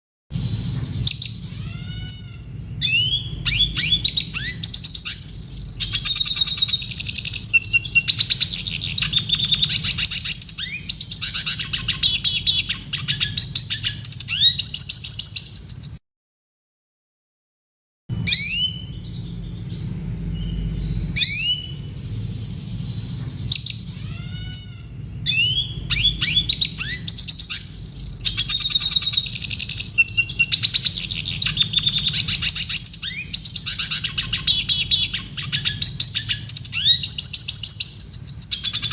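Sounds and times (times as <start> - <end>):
bird singing twittering song: 0.4 - 16.0, 18.1 - 38.9.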